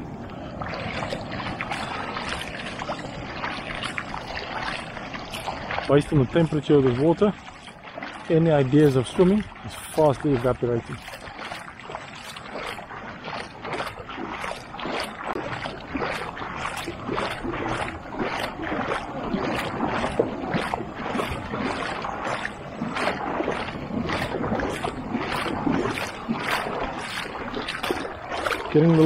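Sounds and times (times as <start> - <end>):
legs wading through water: 0.0 - 29.0.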